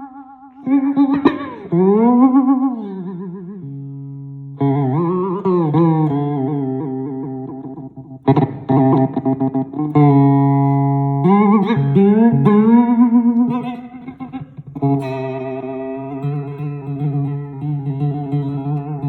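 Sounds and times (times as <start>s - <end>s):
amplified string instrument bending notes: 0.0s - 19.0s.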